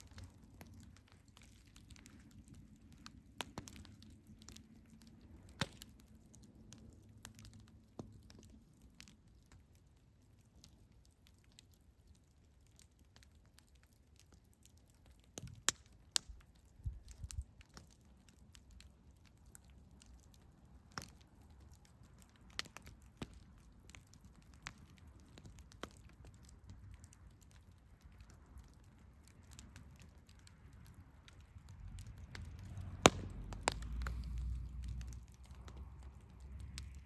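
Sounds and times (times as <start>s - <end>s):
campfire crackling: 0.0s - 37.0s
low fire rumble: 0.0s - 37.0s.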